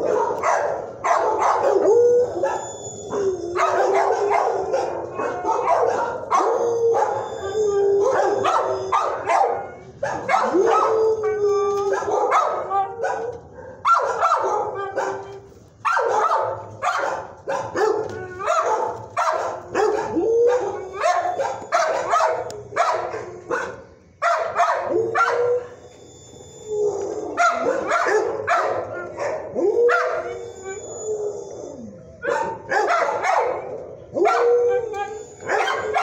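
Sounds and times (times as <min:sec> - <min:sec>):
dogs barking: 0:00.0 - 0:11.1, 0:11.9 - 0:26.0, 0:27.3 - 0:30.5, 0:32.2 - 0:36.0
dogs howling: 0:00.0 - 0:36.0.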